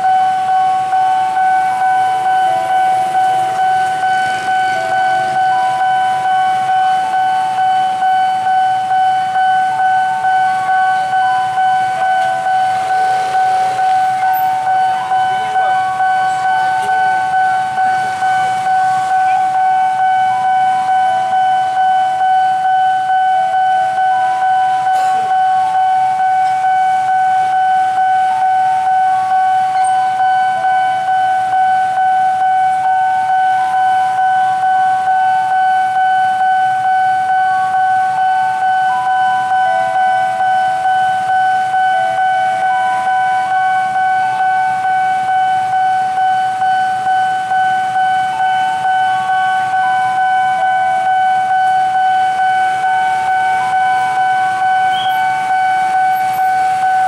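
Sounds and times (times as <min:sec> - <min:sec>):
level crossing warning alarm: 0:00.0 - 0:57.0.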